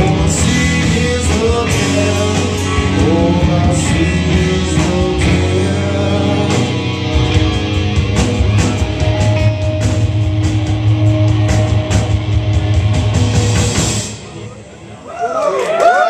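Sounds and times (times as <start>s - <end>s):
rock band playing: 0.0s - 15.8s.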